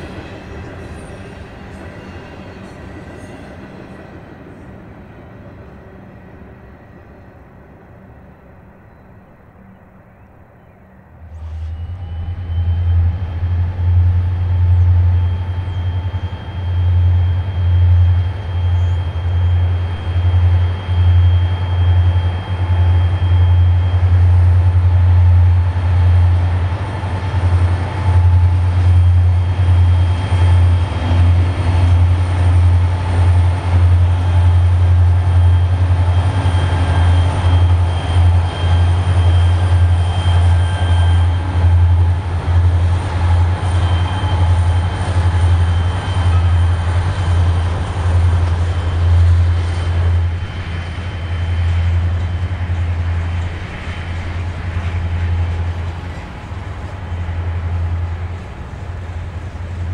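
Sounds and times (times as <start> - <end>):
freight train rumbling past: 0.0 - 59.9
rail noise: 0.0 - 59.9.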